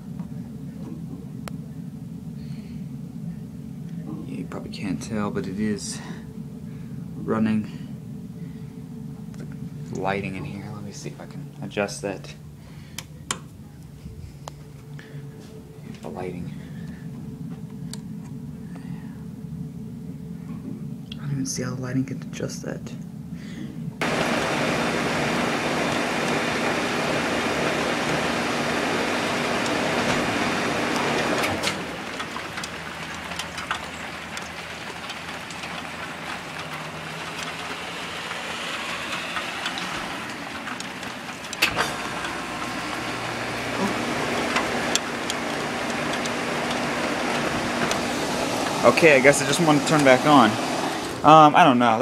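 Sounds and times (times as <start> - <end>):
heat pump rushing noise: 0.0 - 22.5, 23.1 - 52.0
low hum: 0.0 - 52.0.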